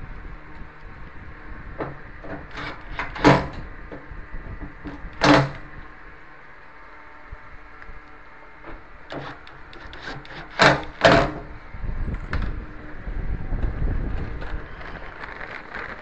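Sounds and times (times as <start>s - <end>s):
low rumbling: 0.0s - 16.0s.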